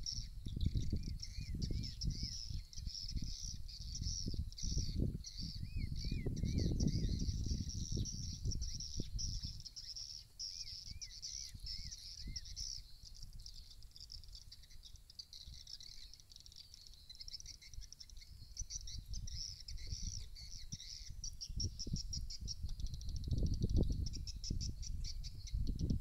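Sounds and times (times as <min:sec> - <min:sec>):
wind buffeting microphone: 0:00.0 - 0:14.4, 0:17.6 - 0:26.0.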